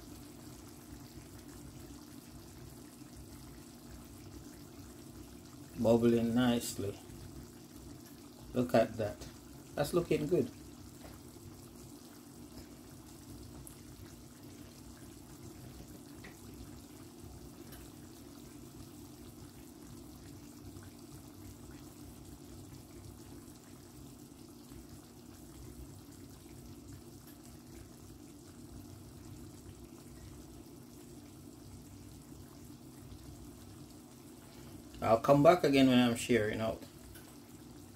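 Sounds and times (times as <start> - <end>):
sauce bubbling with small pops: 0.0 - 5.8, 7.0 - 9.8, 10.4 - 35.0, 36.9 - 37.9.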